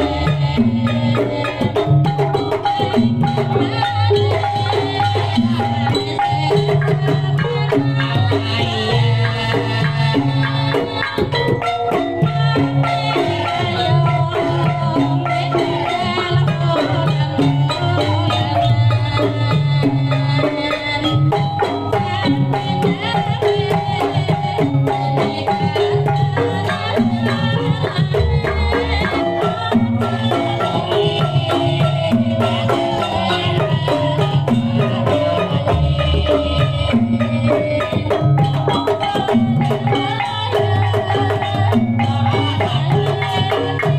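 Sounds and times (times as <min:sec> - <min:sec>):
gamelan metallophones: 0:00.0 - 0:43.9
hand drums beating: 0:00.0 - 0:43.9.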